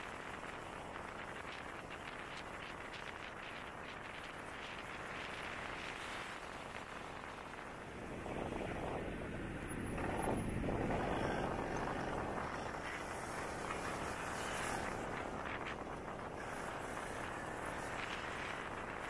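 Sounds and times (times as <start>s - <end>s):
scooter engine drone: 0.0s - 19.0s
wind noise: 0.0s - 19.0s.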